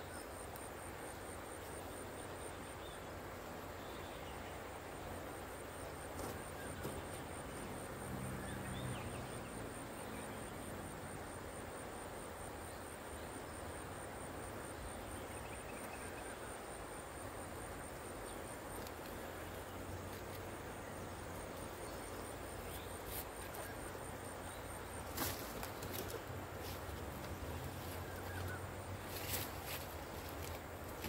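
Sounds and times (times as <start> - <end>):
insect trill: 0.0 - 31.0
outdoor hiss: 0.0 - 31.0.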